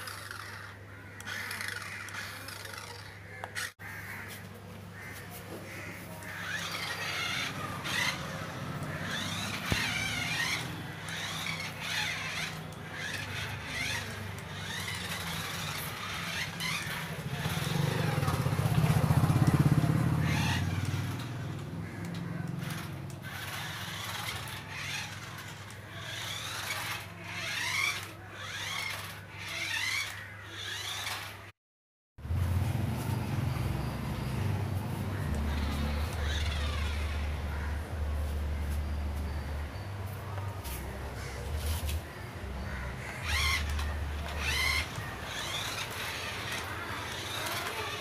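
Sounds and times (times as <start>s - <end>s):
birds chirping: 0.0s - 31.5s, 32.3s - 48.0s
vehicle engine hum: 0.0s - 31.6s, 32.2s - 48.0s.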